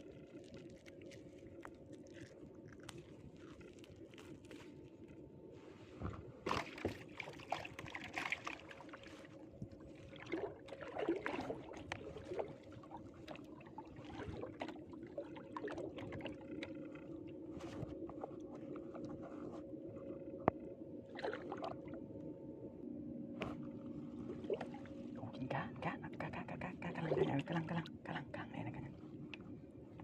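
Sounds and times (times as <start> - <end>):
water sloshing and splashing: 0.0 - 22.3, 23.4 - 30.0
faint steady hum: 0.0 - 30.0.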